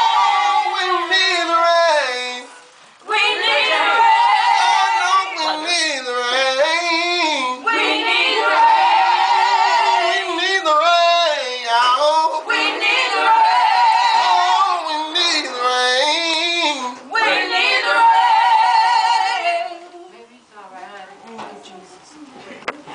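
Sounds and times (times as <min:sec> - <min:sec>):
women singing gospel: 0:00.0 - 0:21.7.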